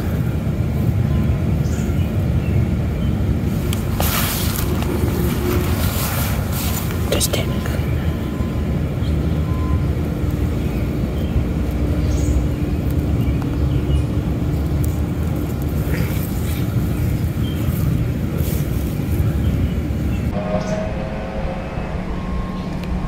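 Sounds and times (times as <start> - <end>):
low engine-like rumble: 0.0 - 23.0
steady hum: 0.0 - 23.0.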